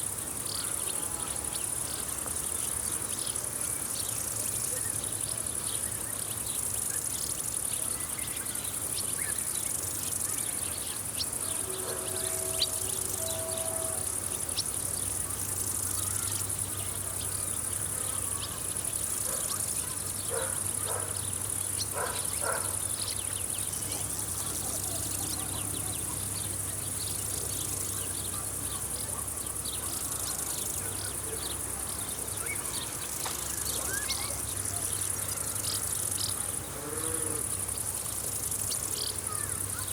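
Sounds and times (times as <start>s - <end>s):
insects stridulating: 0.0s - 39.9s.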